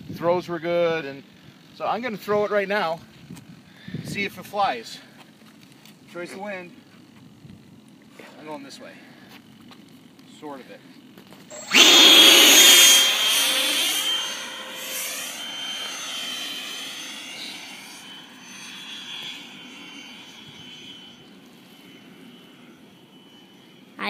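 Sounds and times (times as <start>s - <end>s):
electric ducted fan whine: 0.0s - 24.0s.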